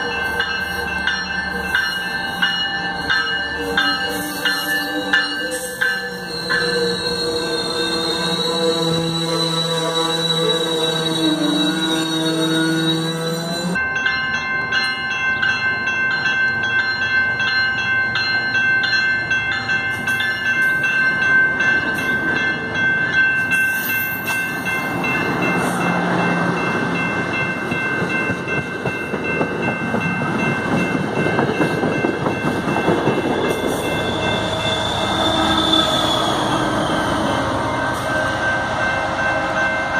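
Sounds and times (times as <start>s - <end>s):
crossing warning bell ringing: 0.0s - 39.9s
diesel locomotive passing: 0.0s - 39.9s.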